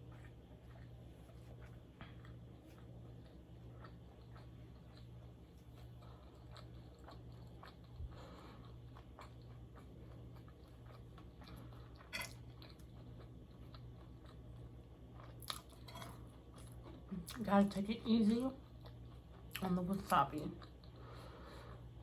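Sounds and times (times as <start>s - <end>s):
chewing and mouth sounds: 0.0s - 22.0s.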